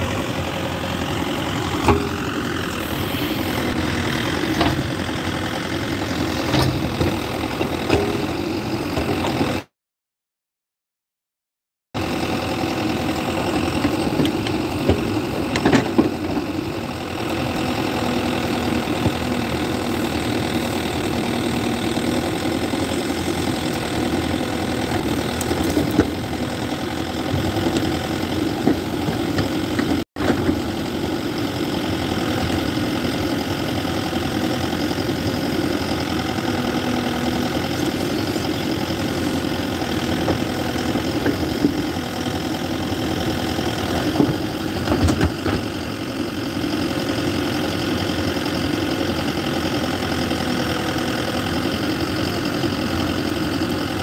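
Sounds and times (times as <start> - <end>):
backhoe diesel engine running: 0.0 - 9.7, 12.0 - 54.0.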